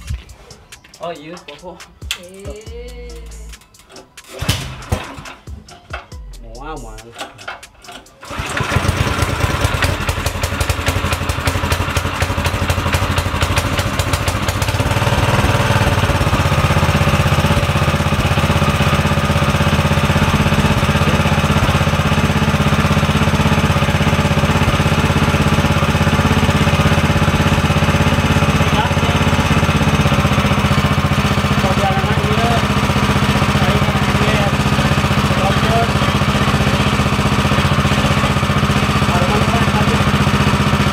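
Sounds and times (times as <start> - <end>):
water pump engine running: 7.1 - 40.9.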